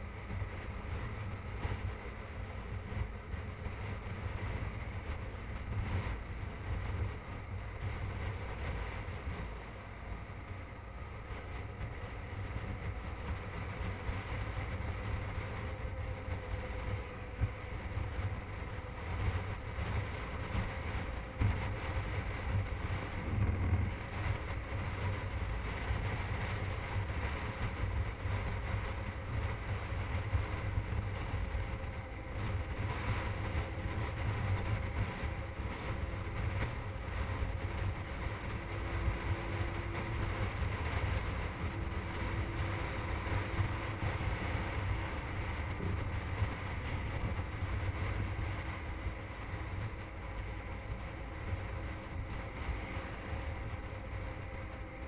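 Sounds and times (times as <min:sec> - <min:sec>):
wind rushing over camera: 0:00.0 - 0:55.0.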